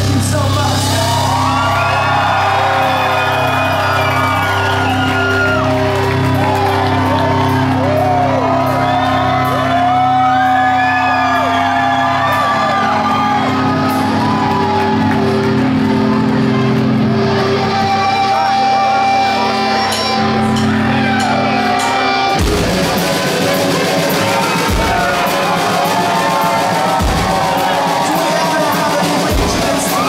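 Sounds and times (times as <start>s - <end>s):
crowd shouting and whooping: 0.6s - 30.0s.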